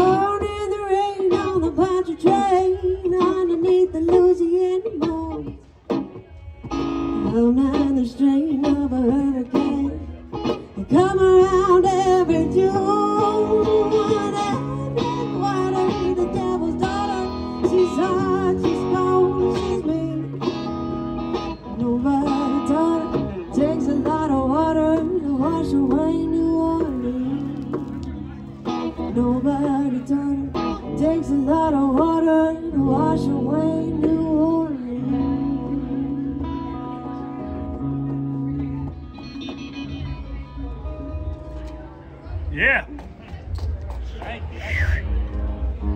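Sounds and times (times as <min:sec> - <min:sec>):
electric guitar lead line: 0:00.0 - 0:42.8
guitars strumming chords: 0:00.0 - 0:43.4.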